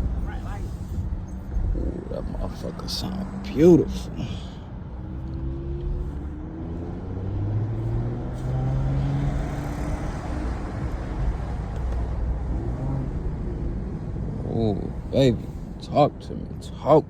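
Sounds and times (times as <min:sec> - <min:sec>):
car engine accelerating: 0:01.6 - 0:15.5.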